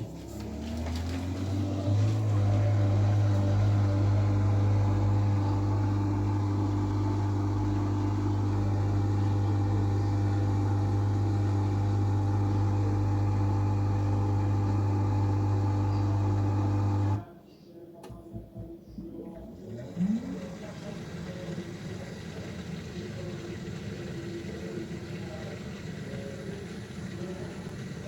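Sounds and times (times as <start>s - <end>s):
dishwasher pump humming: 0.0s - 17.2s, 18.1s - 28.0s.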